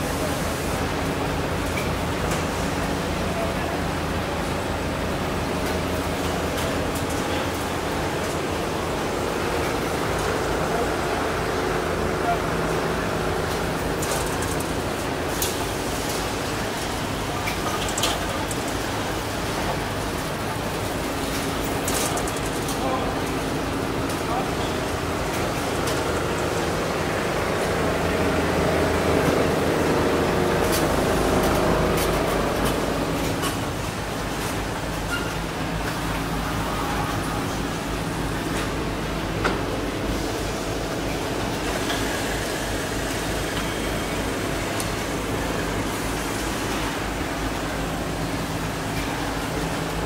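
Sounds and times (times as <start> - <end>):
quilting machine clatter and hum: 0.0 - 50.0.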